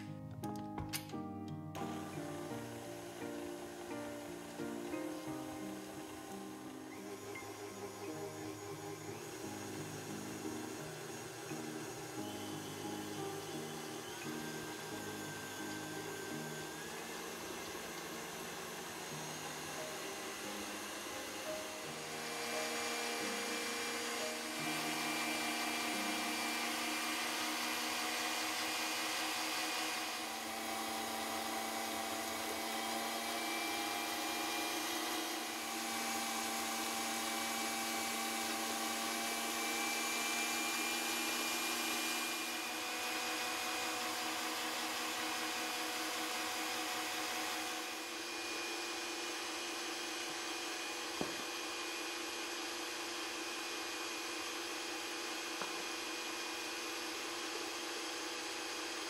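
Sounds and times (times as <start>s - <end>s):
stand mixer motor hum: 1.8s - 59.0s.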